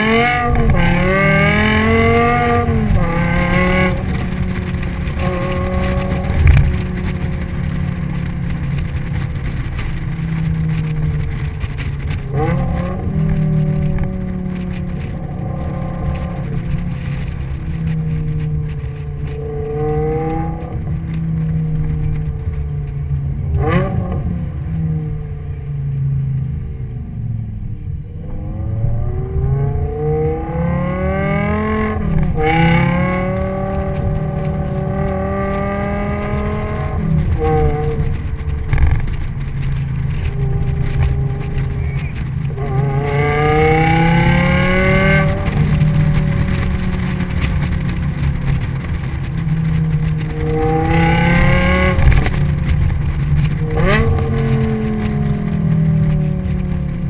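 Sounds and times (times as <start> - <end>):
car engine accelerating: 0.0 - 57.0
road and tyre noise: 0.0 - 57.0.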